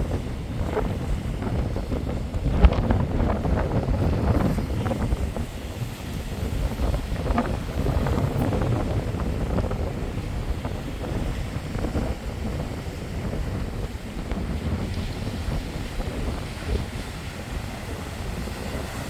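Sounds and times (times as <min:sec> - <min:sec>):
strong wind buffeting microphone: 0:00.0 - 0:19.0
waves breaking on shore: 0:00.0 - 0:19.0.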